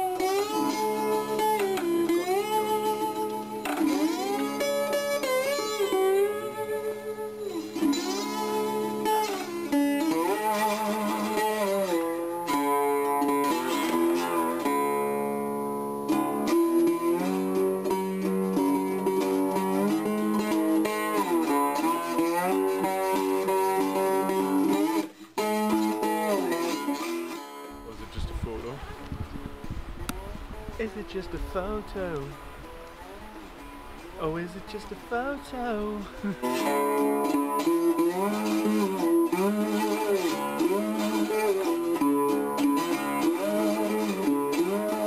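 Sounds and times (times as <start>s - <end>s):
guitar music with bending notes: 0.0s - 45.0s.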